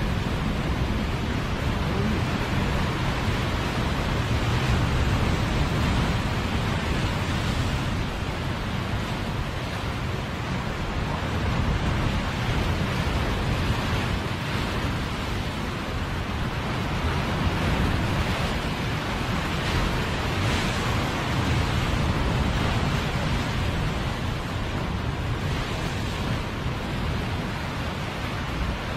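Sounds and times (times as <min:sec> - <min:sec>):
waves breaking on rocks: 0:00.0 - 0:28.9
wind rumble on microphone: 0:00.0 - 0:28.9.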